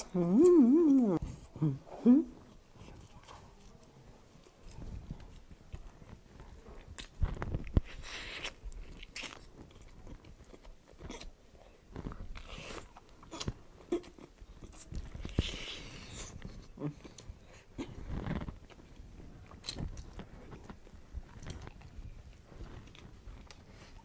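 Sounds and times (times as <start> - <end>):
man chewing and biting food: 2.4 - 24.0.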